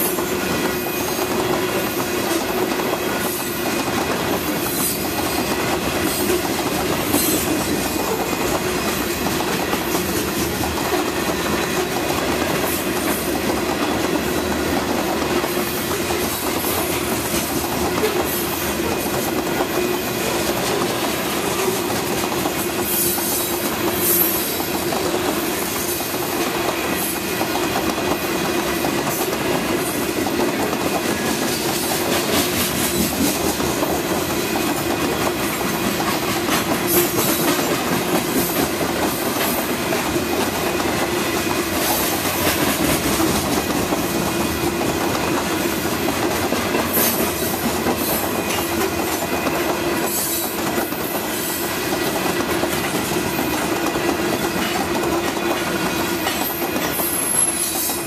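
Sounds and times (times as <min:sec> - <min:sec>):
freight train rolling past: 0:00.0 - 0:58.0
steel wheels on rails: 0:00.0 - 0:58.0.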